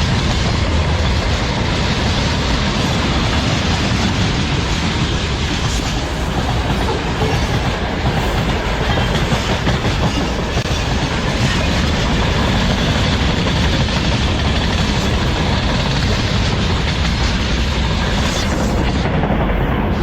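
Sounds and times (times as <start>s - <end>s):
train wheels clattering over rail joints: 0.0s - 20.0s.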